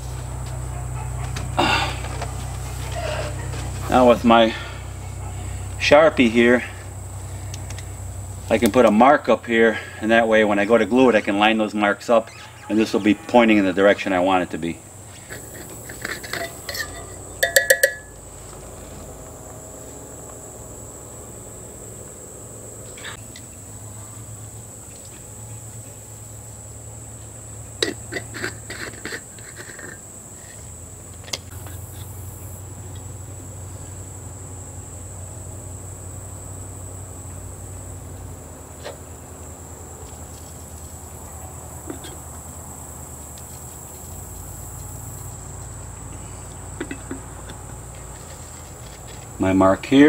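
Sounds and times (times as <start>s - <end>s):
high-pitched insect chorus: 0.0s - 50.0s.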